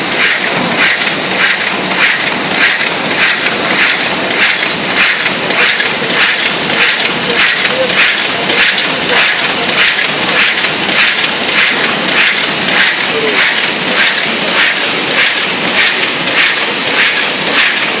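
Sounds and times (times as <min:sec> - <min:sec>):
die-cutting machine clattering: 0:00.0 - 0:18.0.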